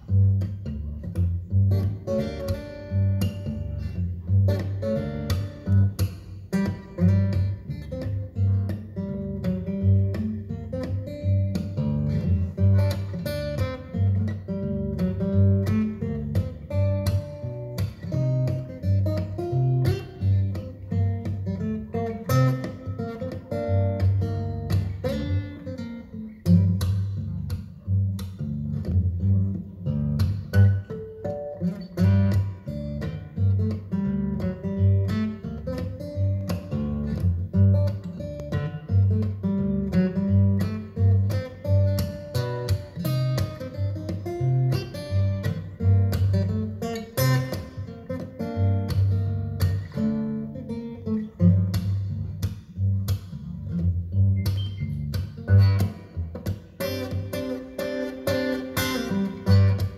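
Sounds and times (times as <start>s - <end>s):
plucked acoustic guitar: 0.0s - 59.9s.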